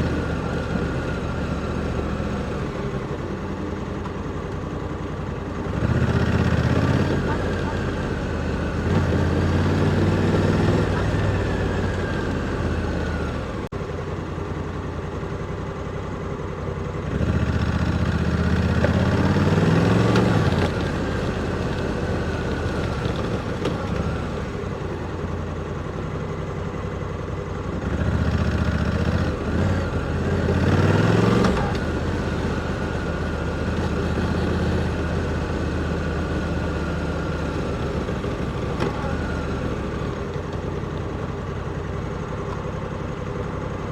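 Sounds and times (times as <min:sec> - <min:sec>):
motorcycle engine accelerating: 0:00.0 - 0:14.0, 0:16.8 - 0:43.9.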